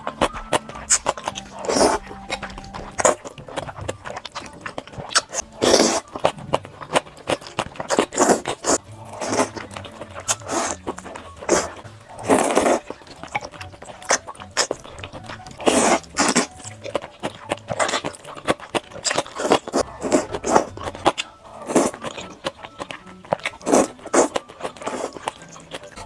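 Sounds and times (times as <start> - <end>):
crunchy chewing: 0.0 - 26.0.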